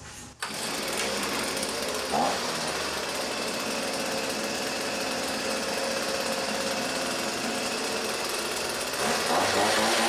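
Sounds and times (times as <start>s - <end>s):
leaf blower engine idling: 0.4s - 10.0s.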